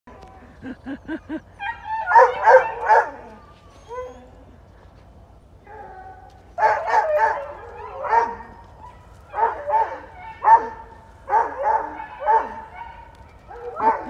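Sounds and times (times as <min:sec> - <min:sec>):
dogs barking and yipping: 0:00.1 - 0:14.0.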